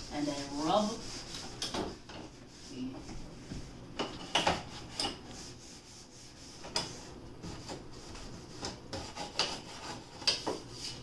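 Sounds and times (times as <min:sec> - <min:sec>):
rag scrubbing refrigerator: 0:00.0 - 0:11.0.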